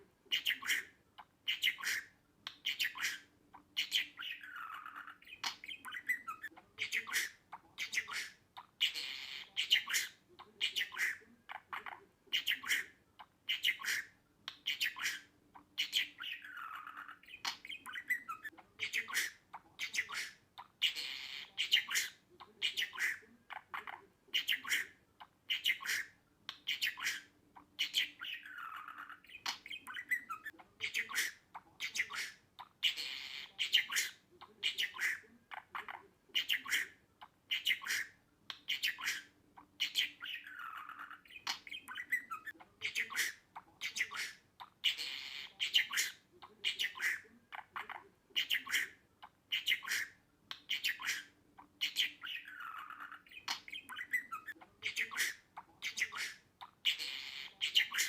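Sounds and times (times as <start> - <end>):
budgerigar squawking and chirping: 0.3 - 58.0.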